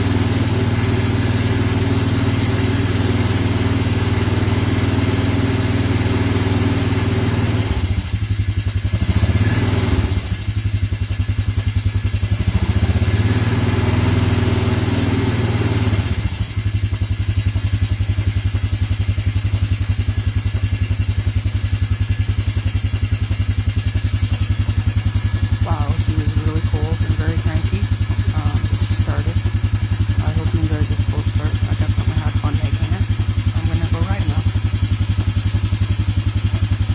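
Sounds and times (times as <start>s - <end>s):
cold engine idling unevenly: 0.0s - 36.9s.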